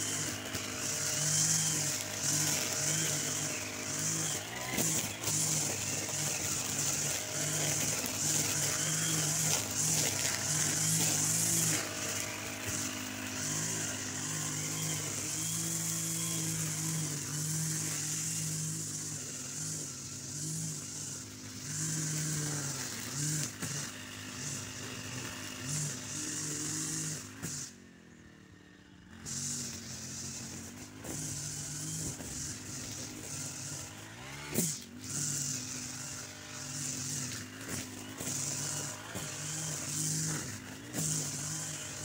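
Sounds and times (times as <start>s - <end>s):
brush cutter engine revving: 0.0s - 42.0s.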